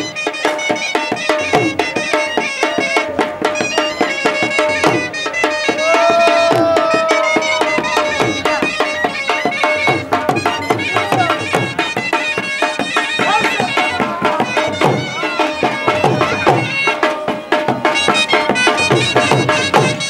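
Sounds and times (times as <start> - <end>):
pitched folk melody: 0.0 - 20.0
steady drumming: 0.0 - 20.0.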